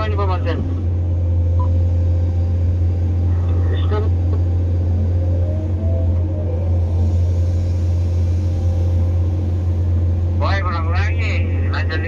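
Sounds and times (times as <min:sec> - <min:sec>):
excavator diesel engine droning: 0:00.0 - 0:12.0
faint hydraulic whine: 0:00.0 - 0:12.0.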